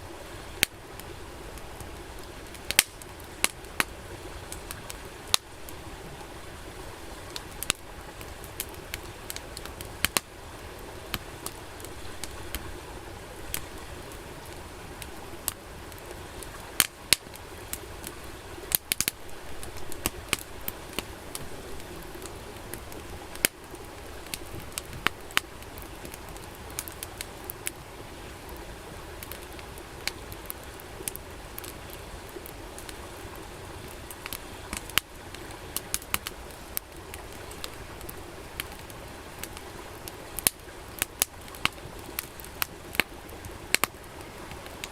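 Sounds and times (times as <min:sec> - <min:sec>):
campfire crackling: 0:00.0 - 0:44.9
sharp pops and snaps of fire: 0:00.6 - 0:06.3, 0:07.2 - 0:44.9.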